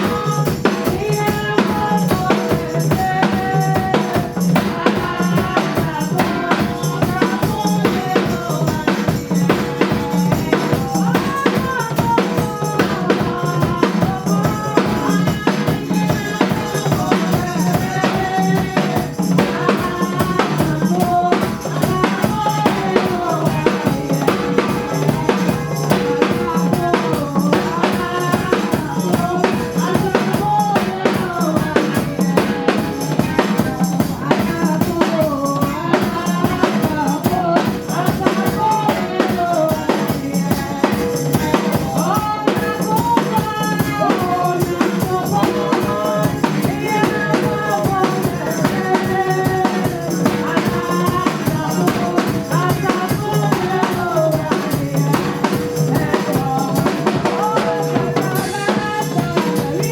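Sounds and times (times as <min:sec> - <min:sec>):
drum kit beat: 0:00.0 - 0:59.9.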